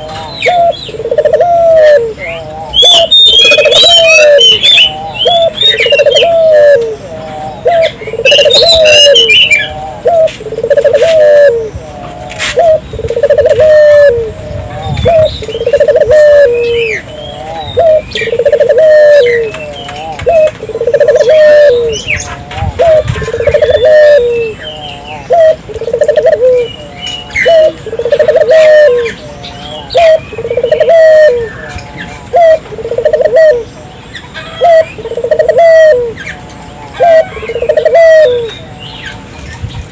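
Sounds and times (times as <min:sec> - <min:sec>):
dove cooing: 0:00.0 - 0:38.8
small birds chirping: 0:00.0 - 0:39.9.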